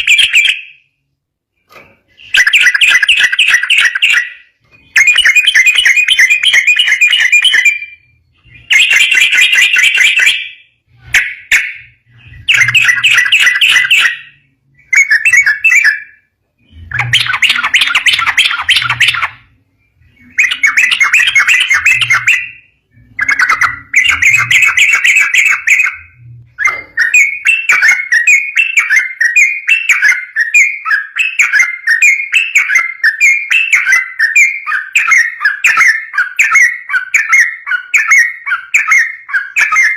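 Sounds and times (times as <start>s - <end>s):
bird singing song phrases: 0.0s - 39.9s.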